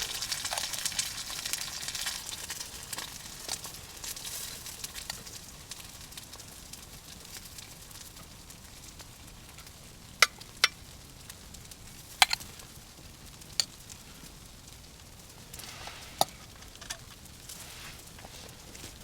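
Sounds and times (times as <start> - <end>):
campfire hissing: 0.0 - 19.0
fire popping: 0.0 - 19.0.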